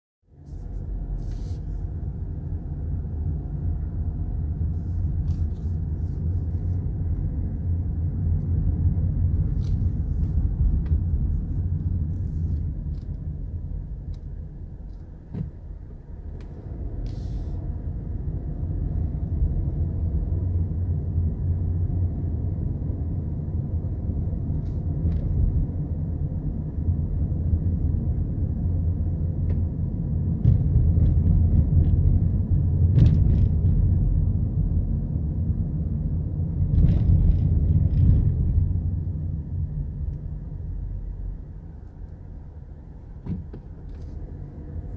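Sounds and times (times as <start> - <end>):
car engine and tyres rumbling: 0.2 - 44.9.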